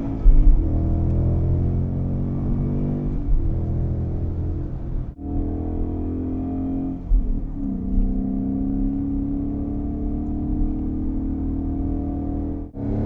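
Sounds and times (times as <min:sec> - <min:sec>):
car engine drone from inside cabin: 0:00.0 - 0:13.0.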